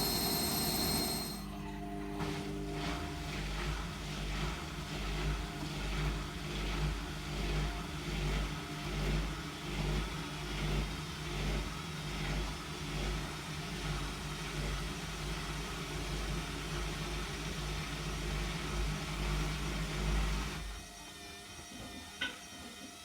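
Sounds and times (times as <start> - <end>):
washing machine motor hum: 0.0 - 20.8.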